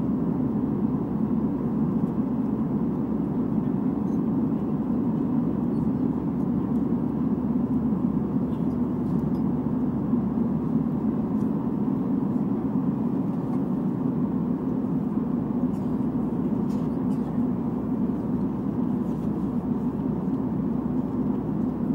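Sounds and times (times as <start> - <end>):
aircraft cabin engine rumble: 0.0 - 21.9.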